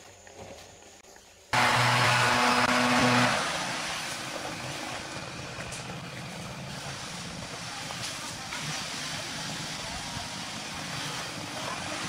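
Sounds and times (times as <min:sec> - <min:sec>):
small engine running: 0:01.6 - 0:12.0.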